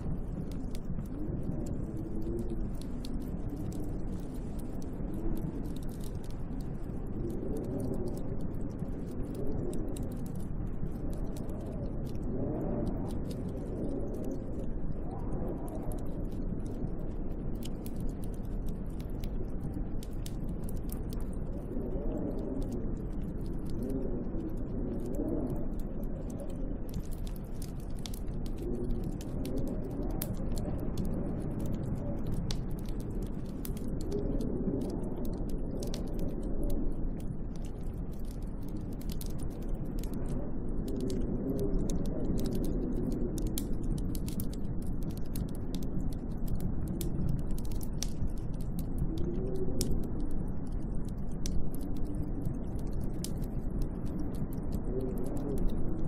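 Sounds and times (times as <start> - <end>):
faint ticks: 0.0 - 56.0.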